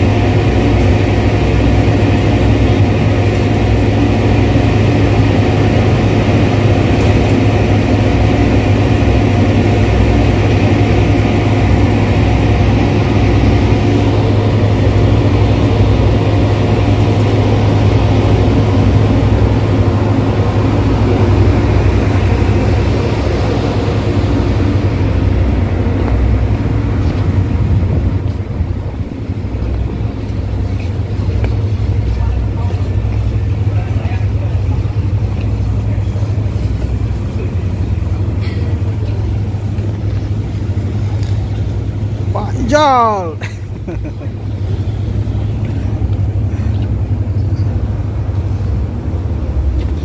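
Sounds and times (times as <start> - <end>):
diesel machinery humming: 0.0 - 50.0.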